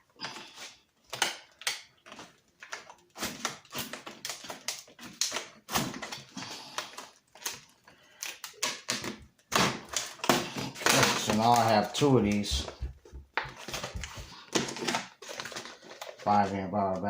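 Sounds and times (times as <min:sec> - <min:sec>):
packaging rustling: 0:00.2 - 0:17.0.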